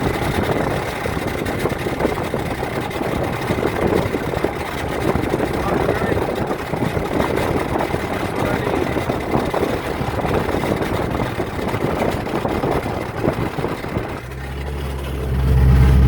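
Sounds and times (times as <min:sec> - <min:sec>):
grinding clatter: 0:00.0 - 0:16.0
low engine drone: 0:00.0 - 0:16.0.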